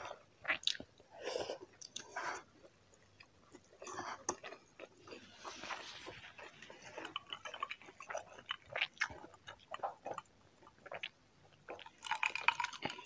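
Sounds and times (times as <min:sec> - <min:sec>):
person chewing: 0:00.1 - 0:13.0.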